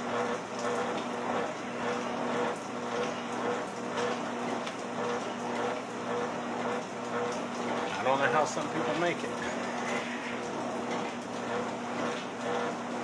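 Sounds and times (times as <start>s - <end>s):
treadmill belt noise: 0.0s - 13.0s
treadmill motor hum: 0.0s - 13.0s.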